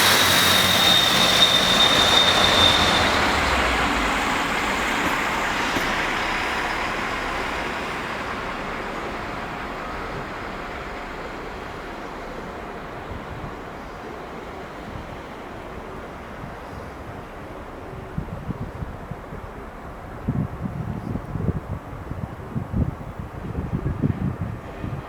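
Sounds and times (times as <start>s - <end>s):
train passing on rails: 0.0s - 25.0s.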